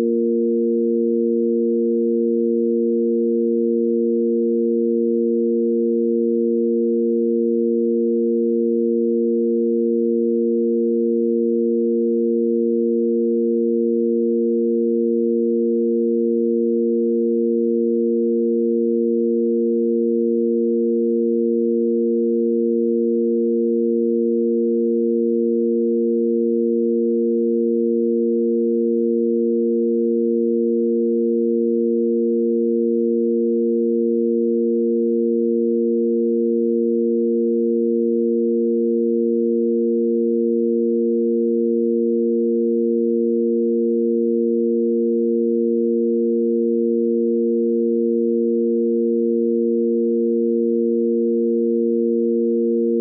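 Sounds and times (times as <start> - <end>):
sine tone drone: 0.0 - 53.0.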